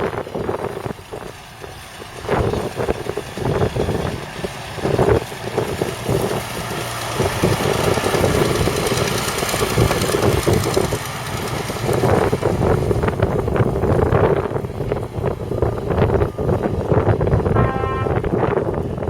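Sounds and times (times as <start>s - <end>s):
diesel tractor engine running: 0.0s - 19.0s.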